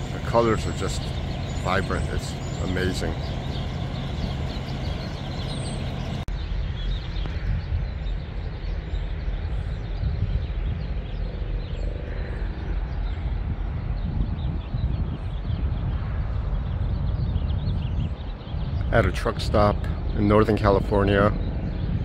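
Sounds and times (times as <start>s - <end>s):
birds chirping faintly: 0.0s - 22.0s
steady low rumble: 0.0s - 22.0s.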